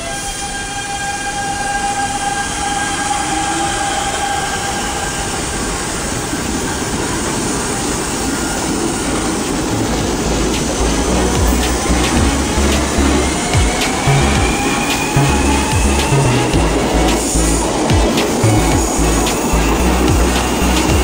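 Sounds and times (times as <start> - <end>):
electric train whine: 0.0 - 21.0
train wheels rumbling on rails: 0.0 - 21.0.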